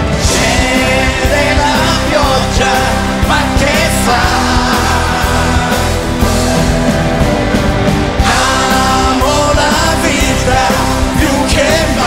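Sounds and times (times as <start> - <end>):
live pop-rock band: 0.0 - 12.0
people singing: 0.0 - 12.0.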